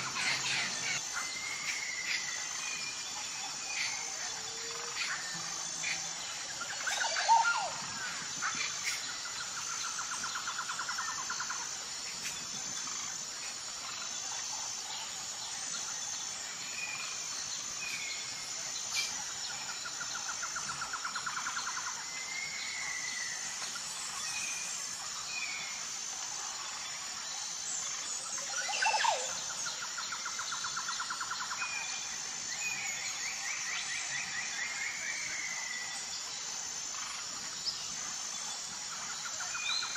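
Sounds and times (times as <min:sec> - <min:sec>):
insect chirring: 0:00.0 - 0:39.9.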